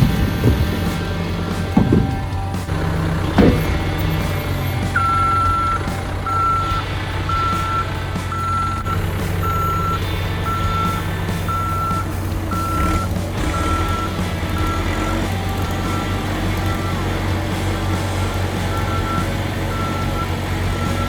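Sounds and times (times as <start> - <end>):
backup alarm beeping: 0.0 - 17.3
diesel engine droning: 0.0 - 21.0.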